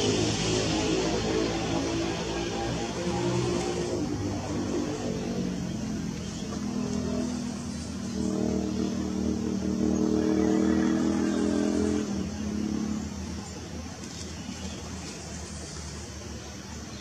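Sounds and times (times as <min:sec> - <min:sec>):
vehicle engine passing by: 0:00.0 - 0:16.4.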